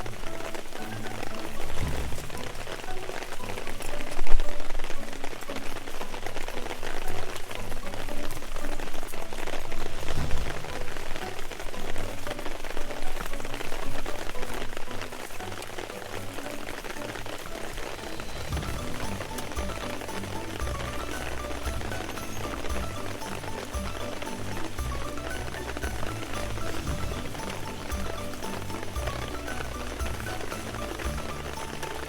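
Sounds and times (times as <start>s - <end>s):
fire crackling and sizzling: 0.0s - 32.0s.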